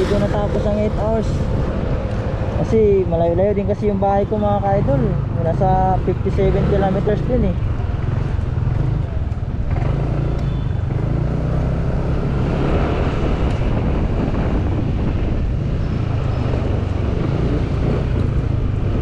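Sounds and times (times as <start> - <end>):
motorcycle engine drone: 0.0 - 19.0
road and wind noise: 0.0 - 19.0.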